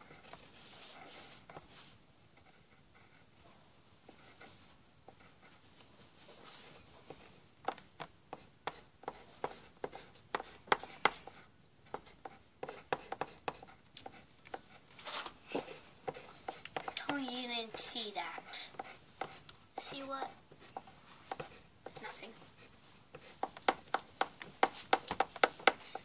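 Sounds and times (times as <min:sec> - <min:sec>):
pencil scratching on paper: 0:00.0 - 0:03.4, 0:04.0 - 0:26.0.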